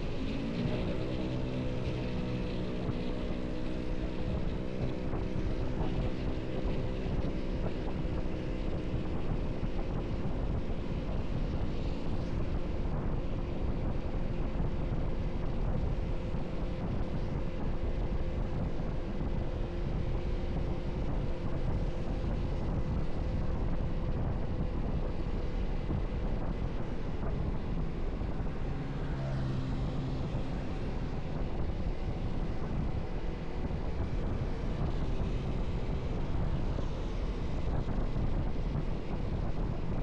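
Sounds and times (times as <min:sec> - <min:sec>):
motorcycle engine running: 0:00.0 - 0:40.0
traffic noise: 0:00.0 - 0:40.0.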